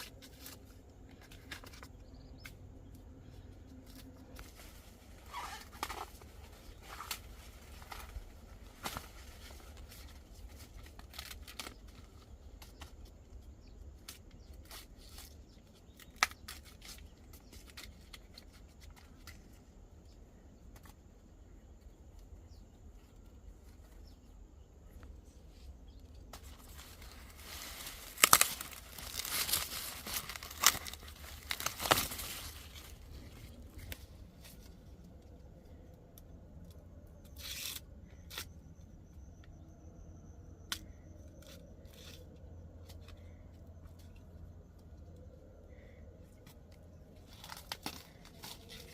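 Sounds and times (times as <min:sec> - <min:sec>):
corn husks rustling and tearing: 0:00.0 - 0:39.4, 0:40.7 - 0:48.9.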